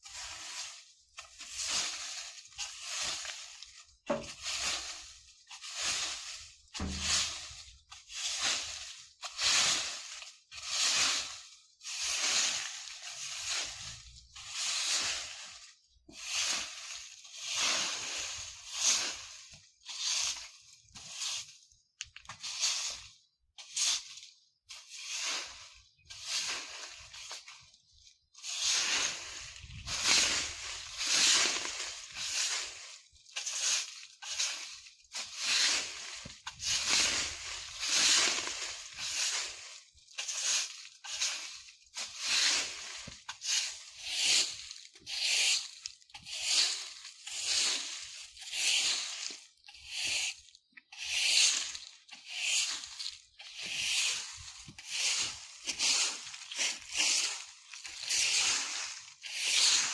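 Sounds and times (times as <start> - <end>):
broom sweeping dry leaves: 0.0 - 59.9.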